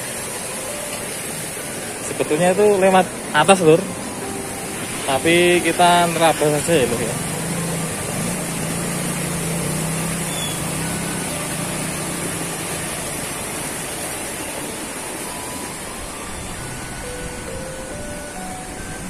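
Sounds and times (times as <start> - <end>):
stream rushing: 0.0 - 19.0
low engine hum: 2.7 - 19.0.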